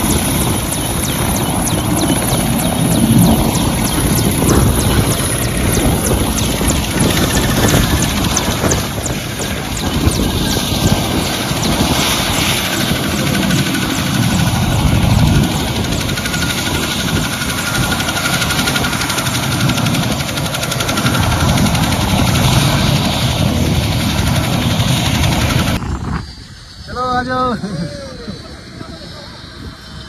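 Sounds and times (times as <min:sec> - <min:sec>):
helicopter rotor chop and engine: 0:00.0 - 0:30.0.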